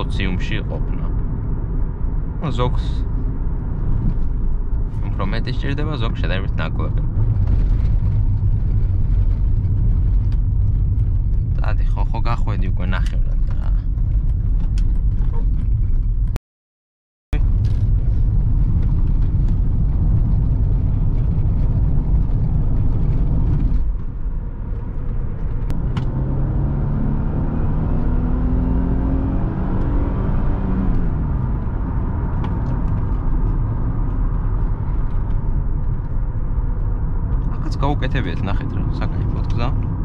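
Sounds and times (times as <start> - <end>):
car engine and road rumble: 0.0 - 16.4, 17.3 - 40.0.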